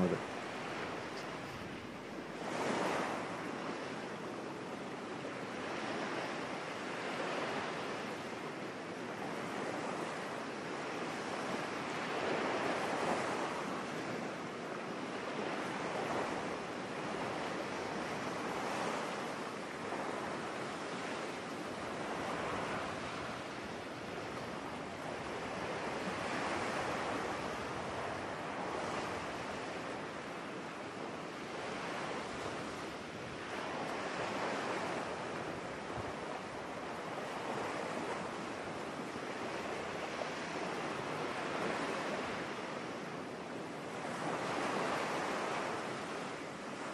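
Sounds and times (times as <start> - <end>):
waves breaking on beach: 0.0 - 46.9.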